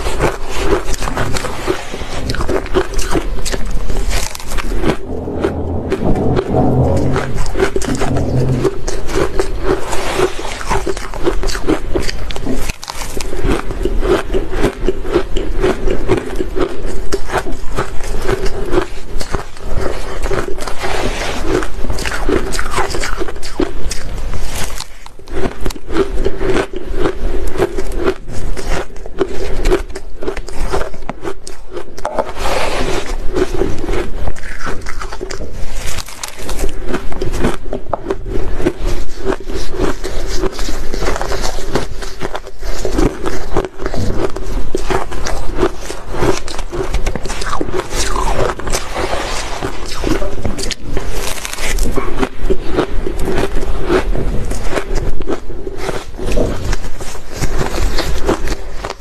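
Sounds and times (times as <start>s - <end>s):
crunching and chewing shaved ice: 0.0s - 5.0s, 9.9s - 59.0s.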